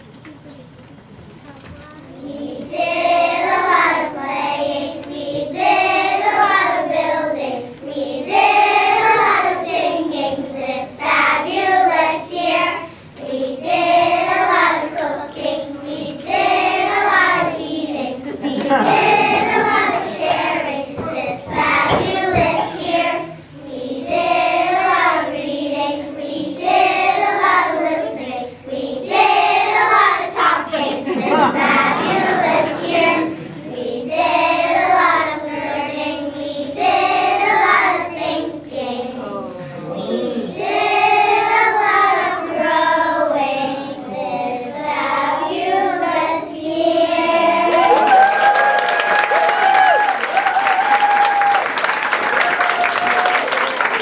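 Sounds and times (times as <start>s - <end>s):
children singing together: 2.2s - 47.8s.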